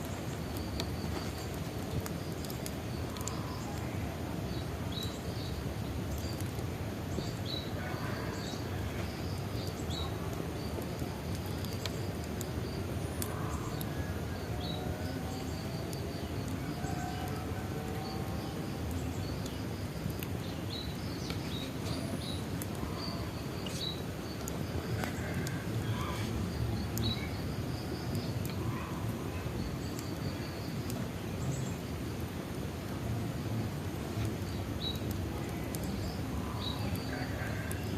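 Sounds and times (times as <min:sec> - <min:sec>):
birds chirping: 0:00.0 - 0:32.6
bonfire crackling and popping: 0:00.0 - 0:37.9
low rumble of flames: 0:00.0 - 0:37.9.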